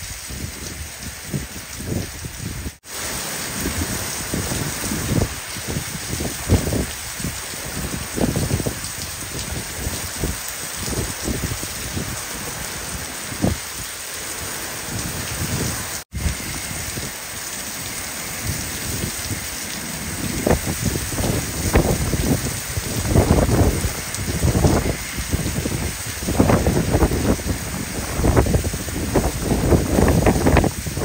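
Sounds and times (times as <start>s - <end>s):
heavy rain hissing: 0.0s - 31.0s
gusty wind buffeting: 3.5s - 31.0s.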